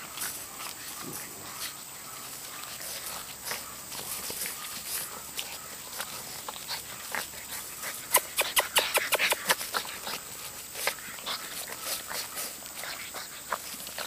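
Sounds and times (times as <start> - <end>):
puppies playing and scuffling: 0.0 - 14.0.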